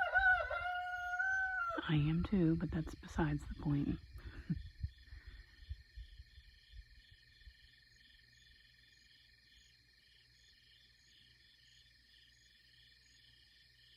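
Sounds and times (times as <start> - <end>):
night insects chirping: 0.0 - 13.9.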